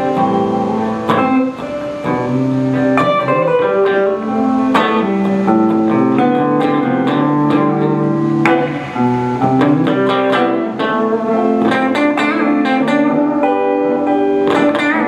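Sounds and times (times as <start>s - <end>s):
electric guitars playing: 0.0s - 15.0s.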